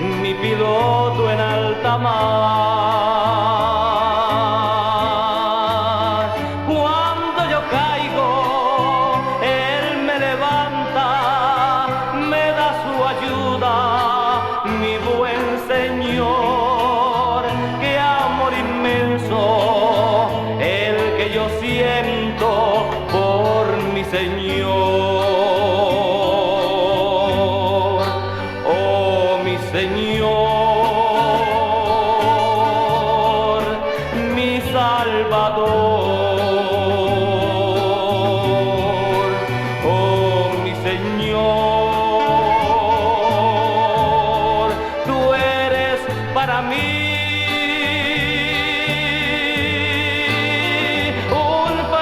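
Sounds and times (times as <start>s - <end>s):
christian song with vibrato melody: 0.0s - 52.0s
stepping bass line: 0.0s - 52.0s.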